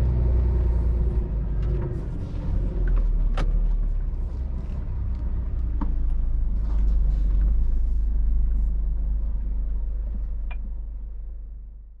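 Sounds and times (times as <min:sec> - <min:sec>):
truck engine rumble: 0:00.0 - 0:11.9.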